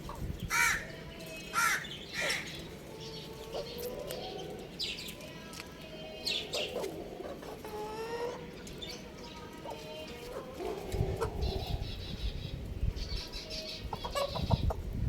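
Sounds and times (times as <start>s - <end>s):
chicks peeping: 0.0s - 14.9s
chickens calling: 0.0s - 15.0s.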